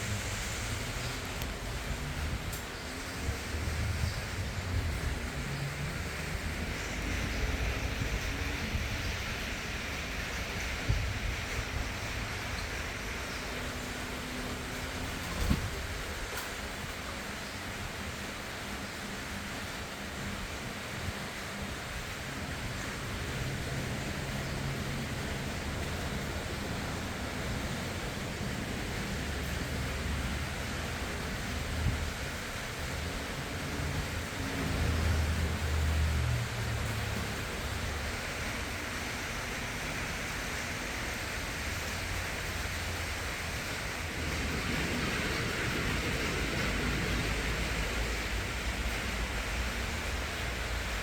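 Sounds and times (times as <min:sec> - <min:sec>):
ceiling fan air rush: 0:00.0 - 0:51.0.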